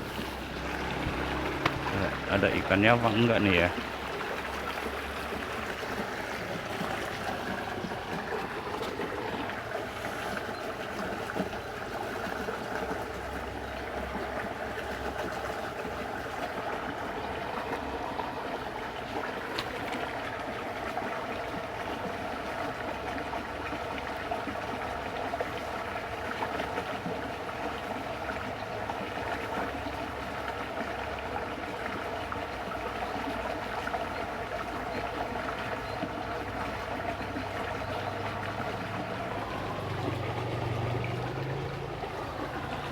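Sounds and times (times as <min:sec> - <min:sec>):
water rushing in a ditch: 0:00.0 - 0:42.9.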